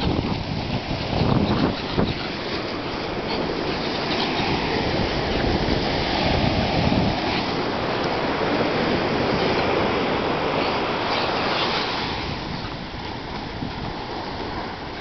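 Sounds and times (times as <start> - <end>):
ocean surf rushing: 0.0 - 15.0
wind buffeting microphone: 0.0 - 15.0.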